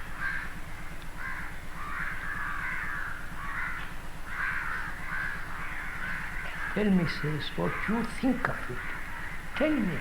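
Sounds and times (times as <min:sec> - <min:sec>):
crows cawing: 0:00.0 - 0:10.0.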